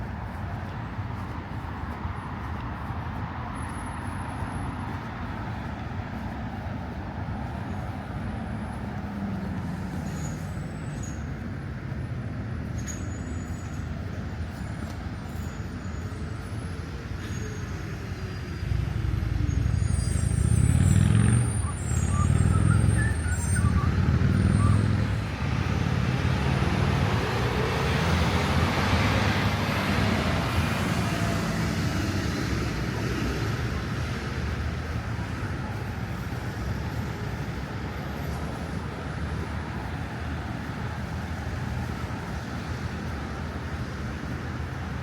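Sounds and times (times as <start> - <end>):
heavy vehicle engine rumbling: 0.0 - 45.0
traffic hum: 0.0 - 45.0.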